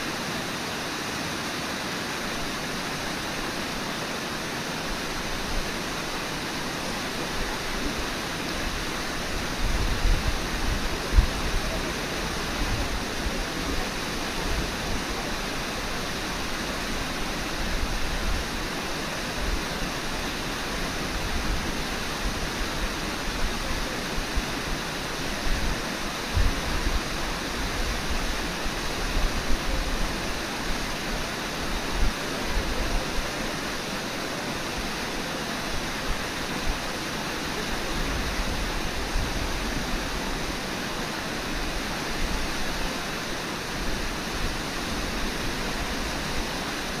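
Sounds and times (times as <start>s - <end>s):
river water rushing: 0.0s - 47.0s.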